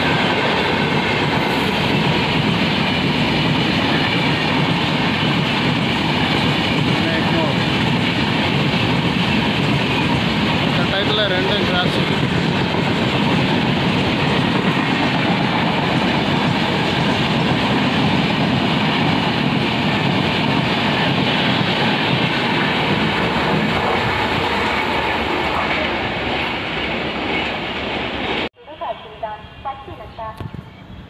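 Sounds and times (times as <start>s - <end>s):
train wheels clacking on rails: 0.0s - 28.5s.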